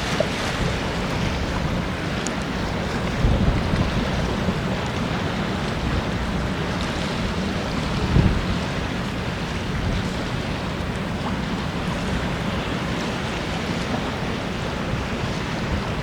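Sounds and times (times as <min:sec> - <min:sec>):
wind rumbling across microphone: 0:00.0 - 0:16.0.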